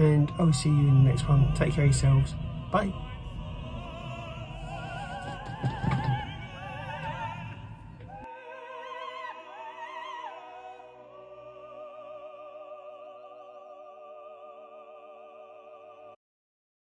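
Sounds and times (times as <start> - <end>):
operatic voice singing with vibrato: 0.0 - 16.2.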